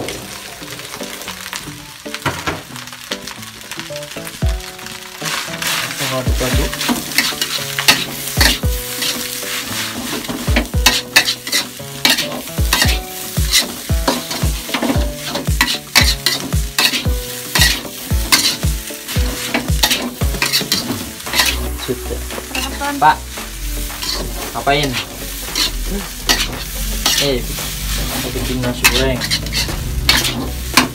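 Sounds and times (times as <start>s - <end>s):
rice sizzling: 0.0s - 30.9s
metal spatula scraping a wok: 5.2s - 30.9s.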